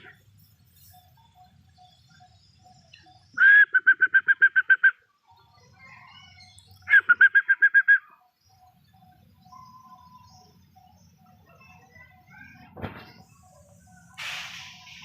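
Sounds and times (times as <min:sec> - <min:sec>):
bird calling with rapid notes: 0:00.0 - 0:15.0.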